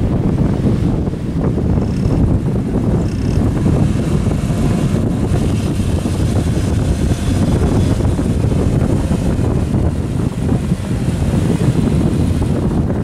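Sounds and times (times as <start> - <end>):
strong wind on microphone: 0.0 - 13.0
vehicle engine: 0.0 - 13.0.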